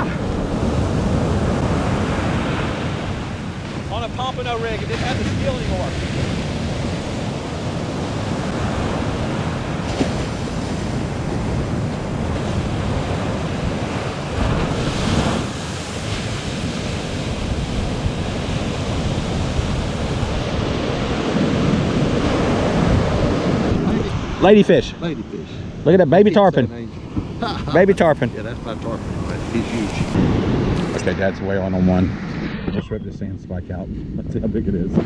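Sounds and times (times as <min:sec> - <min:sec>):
ocean surf breaking: 0:00.0 - 0:33.2
wind buffeting microphone: 0:00.0 - 0:35.0.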